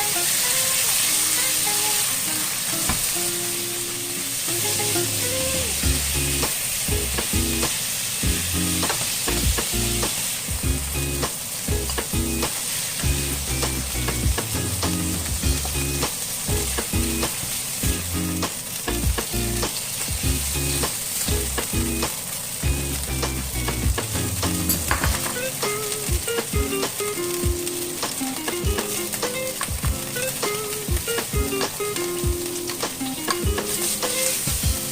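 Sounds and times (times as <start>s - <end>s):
food sizzling in oil: 0.0s - 34.9s.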